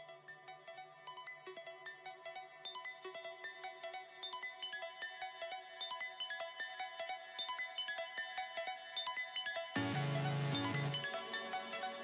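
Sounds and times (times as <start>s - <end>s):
electronic music with ringing notes: 0.0s - 12.0s.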